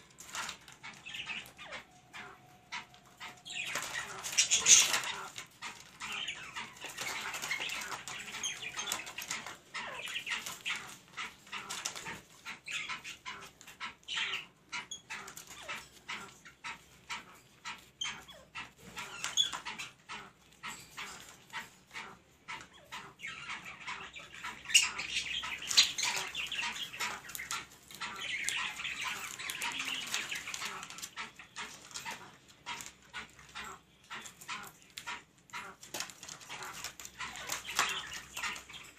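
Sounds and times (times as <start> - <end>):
birds chattering calls: 0.0 - 38.9.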